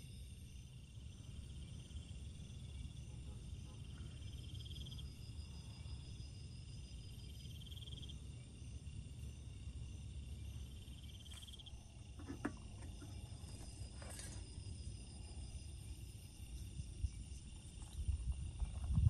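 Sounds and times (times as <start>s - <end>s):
high insect drone: 0.0s - 19.0s
low background rumble: 0.0s - 19.0s
pulsed insect trill: 0.0s - 19.0s.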